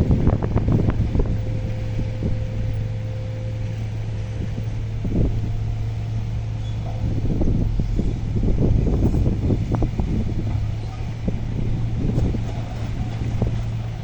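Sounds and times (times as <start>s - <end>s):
diesel machinery droning: 0.0s - 14.0s
faint whine: 0.0s - 14.0s.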